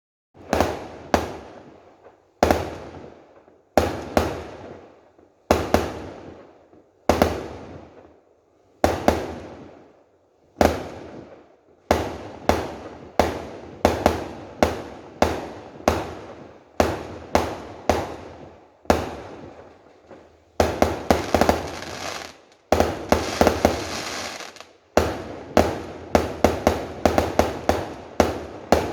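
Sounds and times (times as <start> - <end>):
rapid crackling firework bangs: 0.4 - 1.7, 2.4 - 3.2, 3.8 - 4.8, 5.4 - 6.5, 7.1 - 8.1, 8.8 - 9.8, 10.6 - 28.9
fireworks bangs echoing: 0.4 - 1.8, 3.8 - 4.8, 5.5 - 6.4, 7.1 - 7.9, 8.8 - 9.8, 10.6 - 28.9.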